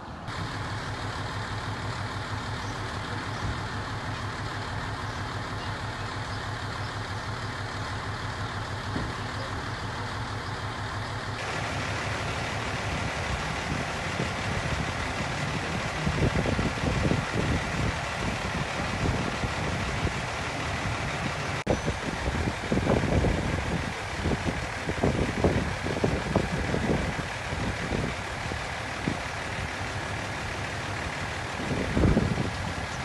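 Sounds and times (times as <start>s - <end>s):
low rumbles: 0.0s - 33.0s
vehicle engine idling: 0.0s - 33.0s.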